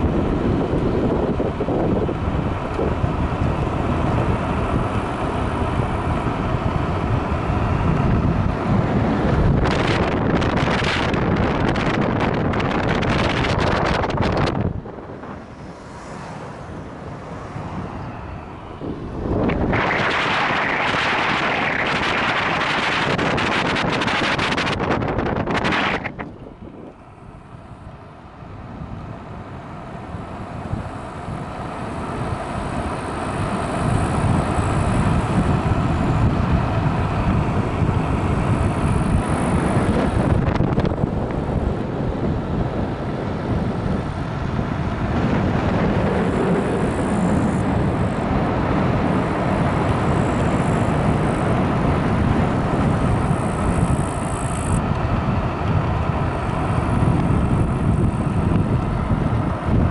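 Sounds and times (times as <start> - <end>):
road noise: 0.0 - 59.9
wind buffeting microphone: 0.0 - 59.9.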